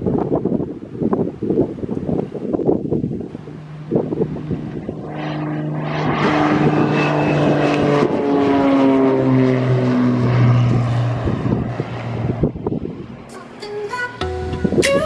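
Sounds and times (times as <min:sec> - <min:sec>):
propeller plane engine drone: 0:00.0 - 0:14.9.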